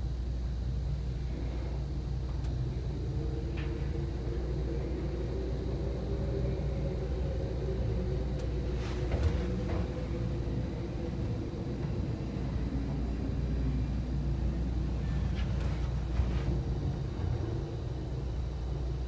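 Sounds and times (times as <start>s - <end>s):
elevator rumble: 0.0s - 19.0s.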